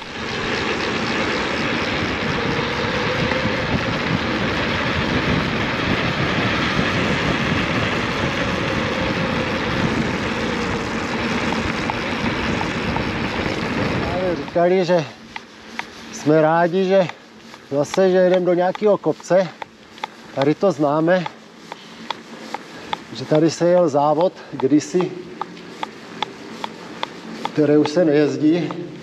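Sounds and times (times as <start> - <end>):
bike tyre rumble: 0.0 - 29.0
wind buffeting microphone: 0.0 - 29.0.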